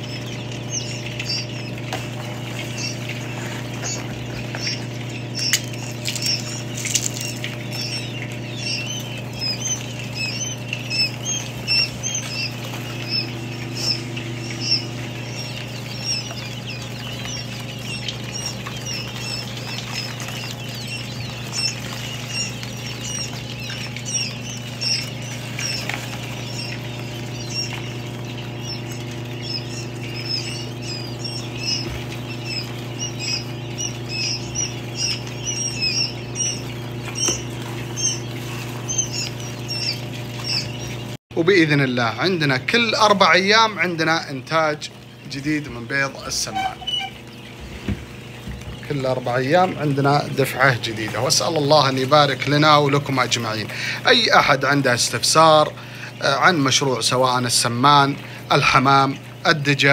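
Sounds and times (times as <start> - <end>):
incubator hum: 0.0 - 59.9
quail chicks peeping: 0.0 - 59.9.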